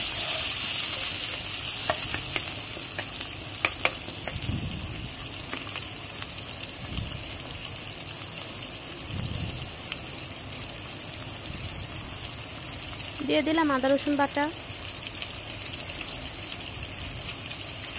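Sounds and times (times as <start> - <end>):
vegetables sizzling in oil: 0.0 - 17.9.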